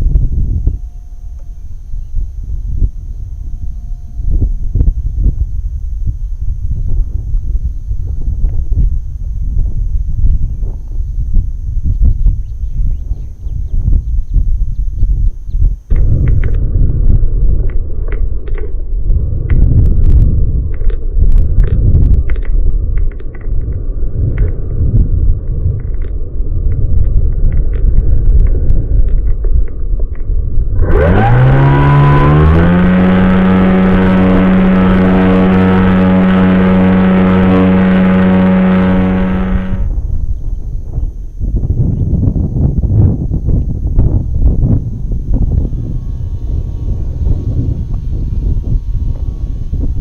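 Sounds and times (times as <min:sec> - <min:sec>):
model motor and propeller whirring: 0:00.0 - 0:50.0
wind buffeting microphone: 0:00.0 - 0:50.0.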